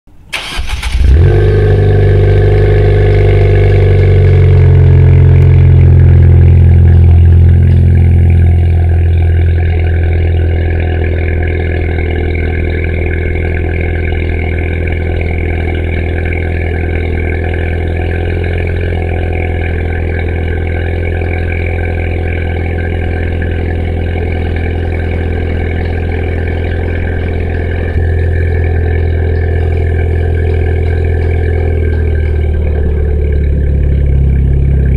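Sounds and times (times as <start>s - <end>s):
car engine idling: 0.1s - 34.9s
car engine cranking: 0.2s - 34.9s.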